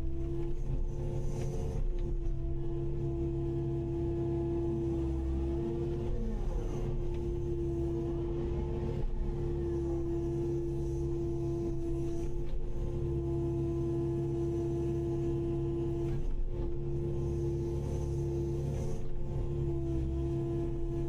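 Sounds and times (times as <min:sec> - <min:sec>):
excavator diesel engine whining: 0:00.0 - 0:21.0.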